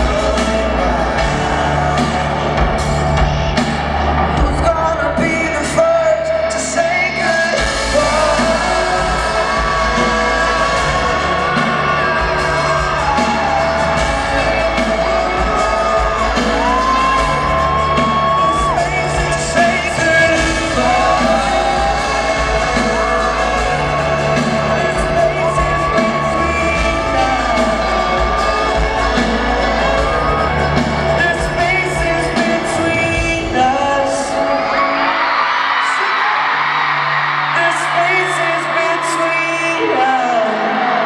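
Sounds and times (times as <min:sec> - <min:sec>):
fans screaming: 0:00.0 - 0:41.0
live pop band through pa: 0:00.0 - 0:41.0
male lead vocals: 0:00.0 - 0:41.0.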